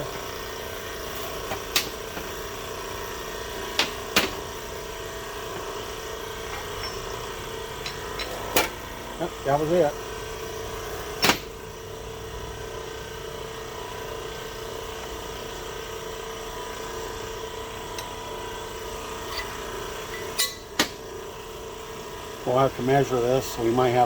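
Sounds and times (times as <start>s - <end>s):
electric pump motor hum: 0.0s - 24.0s.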